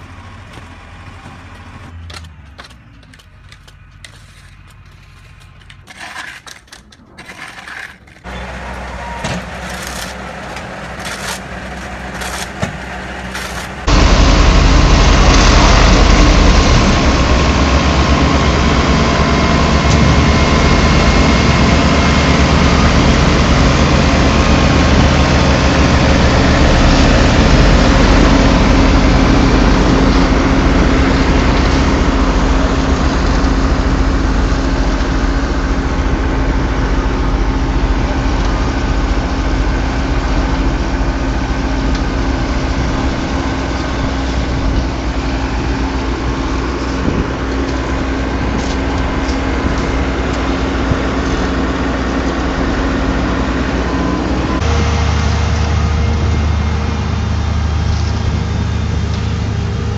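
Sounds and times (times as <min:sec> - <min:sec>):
heavy machinery engines droning: 0:00.0 - 0:59.9.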